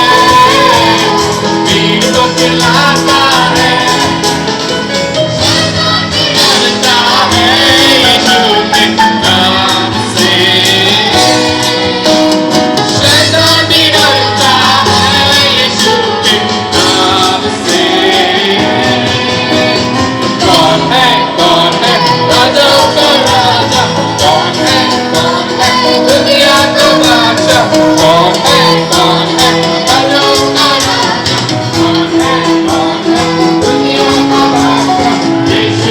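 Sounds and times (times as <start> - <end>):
music with steady beat: 0.0 - 35.9
voices singing: 0.0 - 35.9.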